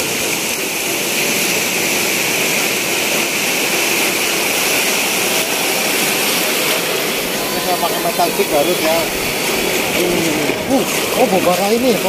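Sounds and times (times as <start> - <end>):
waves breaking on a beach: 0.0 - 12.0.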